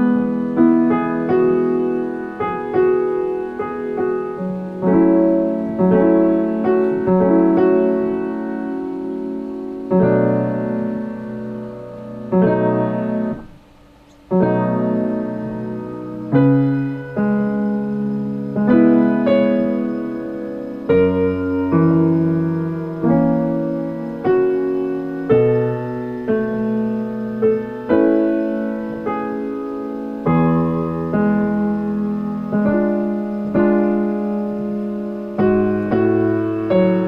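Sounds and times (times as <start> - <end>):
solo piano playing: 0.0 - 37.0.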